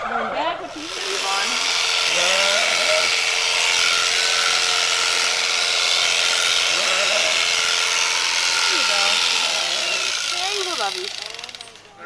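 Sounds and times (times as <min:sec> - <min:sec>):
electric sheep shears buzzing: 0:00.7 - 0:12.0.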